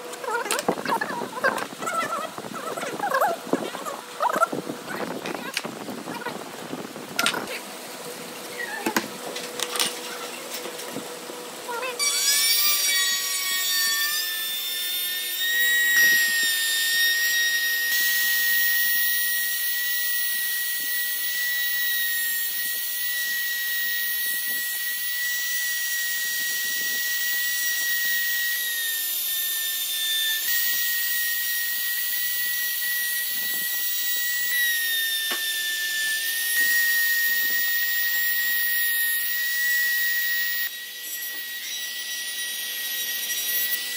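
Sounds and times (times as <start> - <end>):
trim router whining: 0.0 - 43.9.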